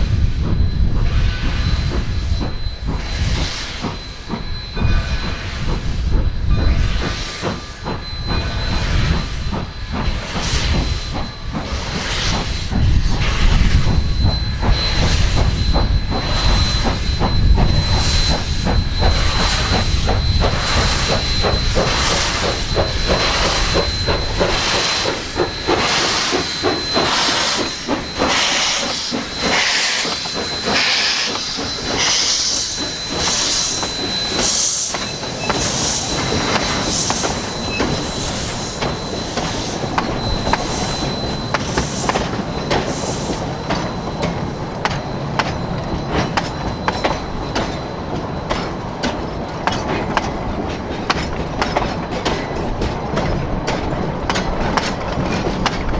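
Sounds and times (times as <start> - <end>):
steam hiss: 0.0 - 48.0
steam locomotive exhaust chuffing: 0.0 - 55.9.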